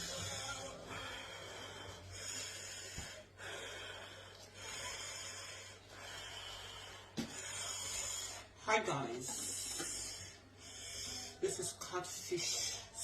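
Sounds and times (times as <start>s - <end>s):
person breathing close to microphone: 0.0s - 8.6s, 9.3s - 11.4s.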